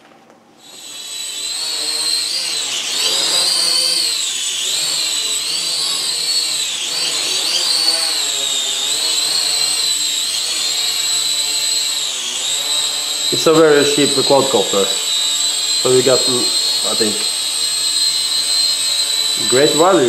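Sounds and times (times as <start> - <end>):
toy quadcopter propellers whining: 0.6 - 20.0.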